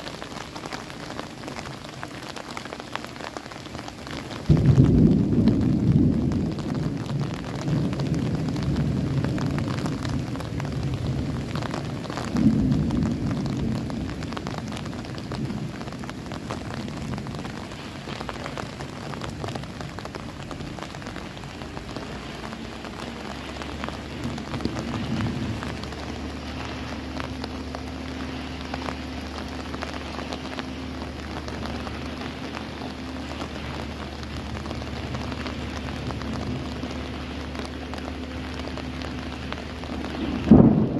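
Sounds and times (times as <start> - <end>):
steady rain: 0.0 - 40.9
thunder rumbling: 0.0 - 40.9.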